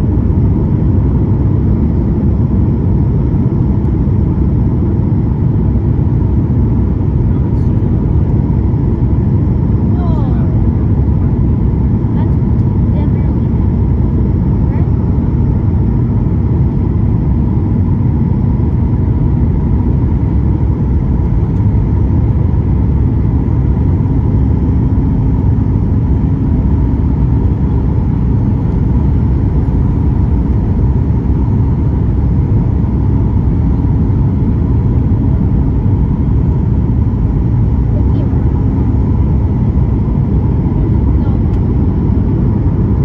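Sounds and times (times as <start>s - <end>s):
airplane cabin roar: 0.0s - 43.0s.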